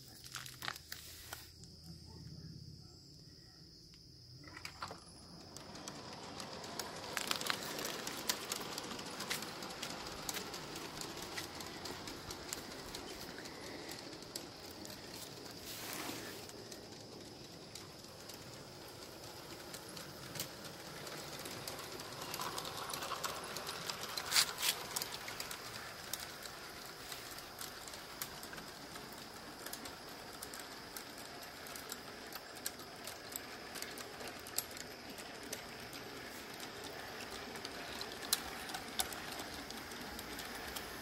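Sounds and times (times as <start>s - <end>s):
model train wheels clicking: 3.9s - 41.0s.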